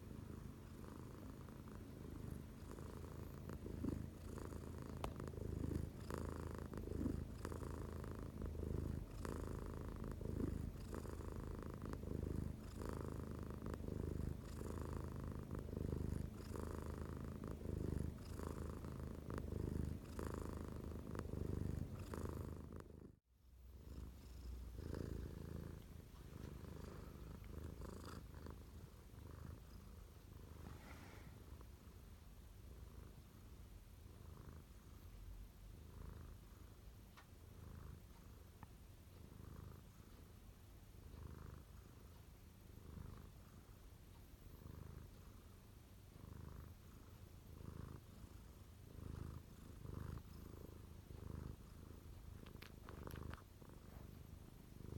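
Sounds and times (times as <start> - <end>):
cat purring: 0.0 - 54.9.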